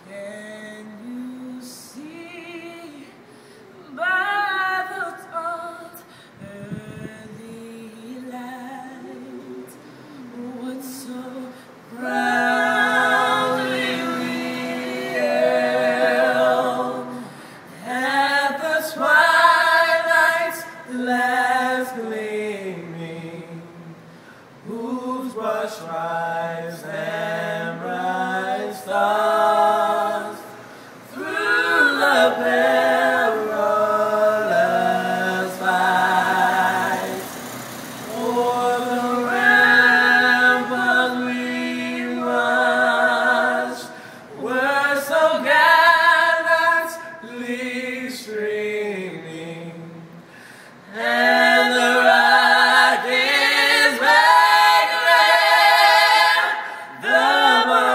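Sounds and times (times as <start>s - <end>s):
vocal group singing a cappella: 0.0s - 57.9s.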